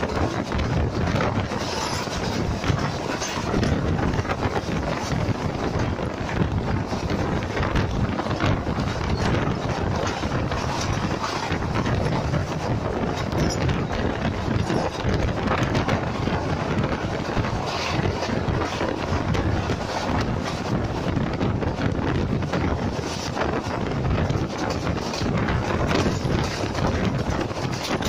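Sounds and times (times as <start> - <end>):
train rumbling: 0.0 - 28.0
wind blasting on microphone: 0.0 - 28.0.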